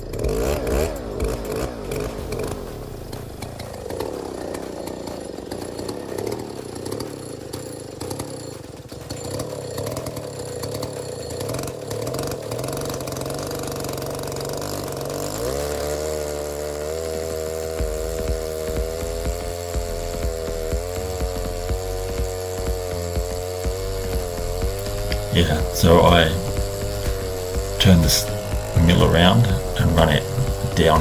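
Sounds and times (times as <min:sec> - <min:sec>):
chainsaw engine running: 0:00.0 - 0:31.0.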